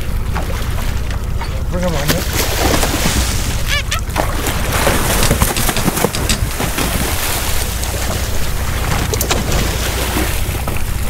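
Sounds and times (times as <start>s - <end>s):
boat engine running: 0.0s - 11.0s
rush of wind and water: 0.0s - 11.0s
water splashes and buffets: 0.0s - 11.0s.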